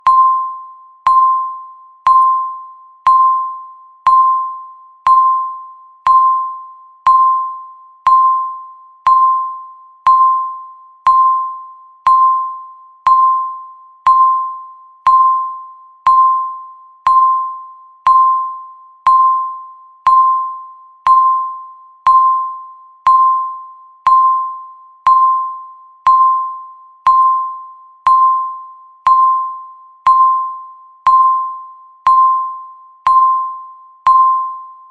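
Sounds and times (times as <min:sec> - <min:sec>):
bell-like timer ping: 0:00.0 - 0:34.9.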